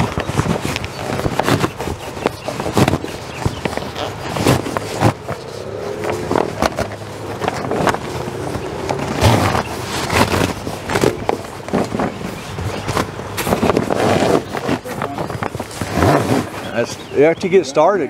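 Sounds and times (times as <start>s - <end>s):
vinyl fabric rustling and crinkling: 0.0s - 17.9s.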